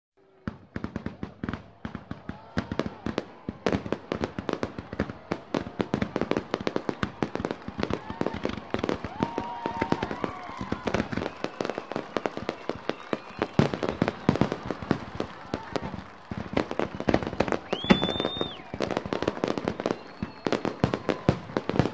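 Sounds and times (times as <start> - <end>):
fireworks bangs and pops: 0.4 - 21.9.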